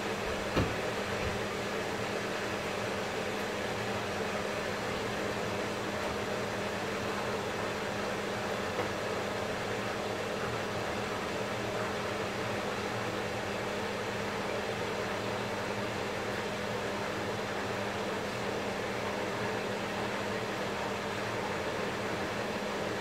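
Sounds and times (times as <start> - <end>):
motor hum with hiss: 0.0 - 23.0.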